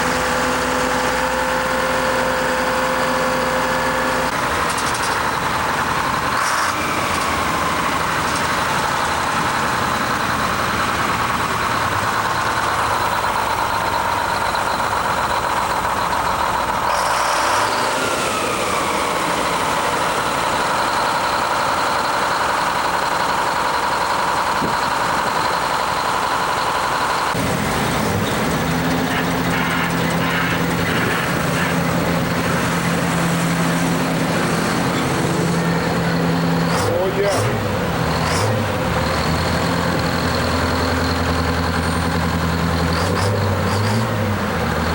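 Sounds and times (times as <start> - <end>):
diesel truck engine whining: 0.0 - 44.9.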